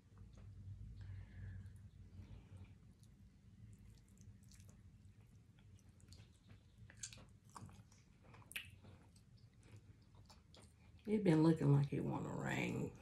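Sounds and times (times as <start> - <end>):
low room hum: 0.0 - 13.0
wet chewing and lip smacks: 0.2 - 11.1.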